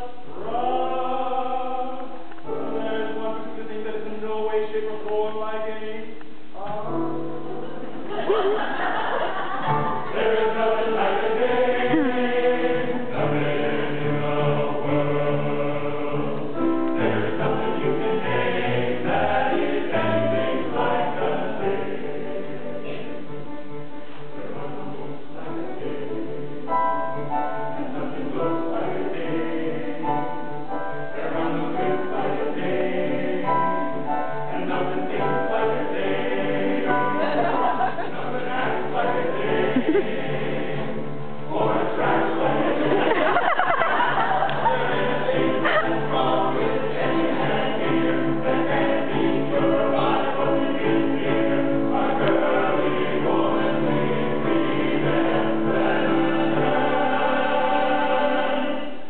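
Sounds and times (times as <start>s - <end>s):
men's choir singing in harmony: 0.0s - 6.2s, 6.8s - 59.0s.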